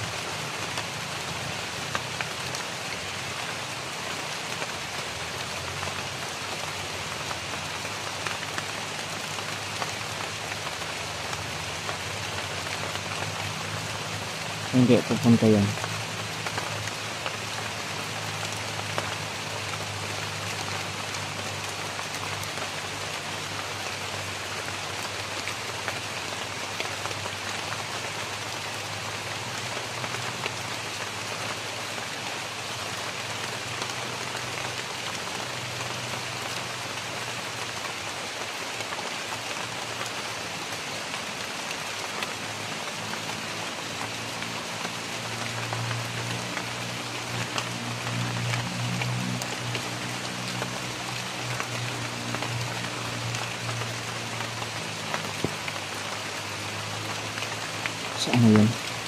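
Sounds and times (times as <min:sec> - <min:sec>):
rain falling on foliage: 0:00.0 - 0:59.0.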